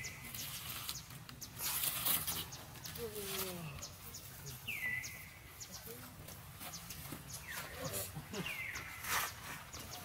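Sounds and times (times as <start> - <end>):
rustle: 0.0 - 10.0.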